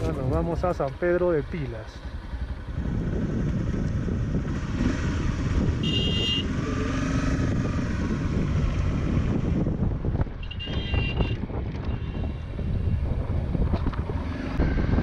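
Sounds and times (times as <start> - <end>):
motorcycle engine rumble: 0.0 - 15.0
wind buffeting microphone: 2.2 - 15.0.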